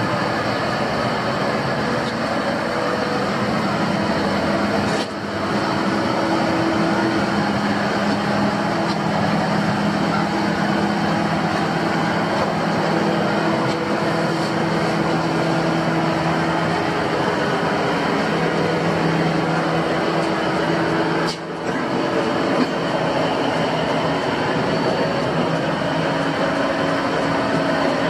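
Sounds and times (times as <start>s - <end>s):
diesel truck engine running: 0.0s - 28.0s
hydraulic crane hum: 0.0s - 28.0s.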